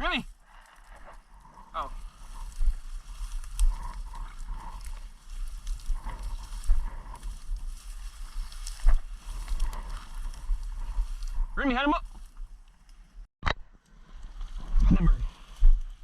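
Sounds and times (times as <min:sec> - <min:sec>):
brush rustling: 0:00.0 - 0:13.2
footsteps through grass: 0:00.0 - 0:13.2.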